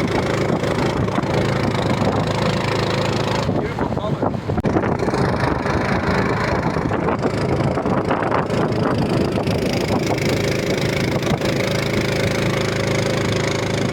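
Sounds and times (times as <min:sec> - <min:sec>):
engine humming: 0:00.0 - 0:13.9.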